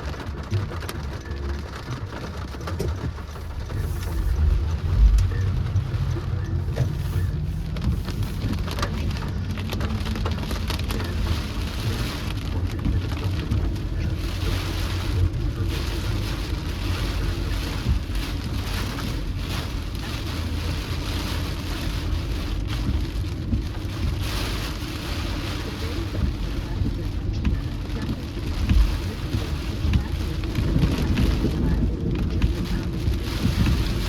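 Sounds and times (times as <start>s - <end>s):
car road rumble: 0.0s - 34.0s
rain patter on car: 0.0s - 34.0s.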